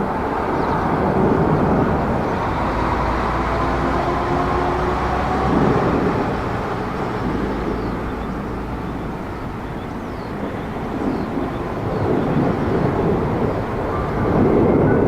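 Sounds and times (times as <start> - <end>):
jet engine rumbling rush: 0.0 - 15.0.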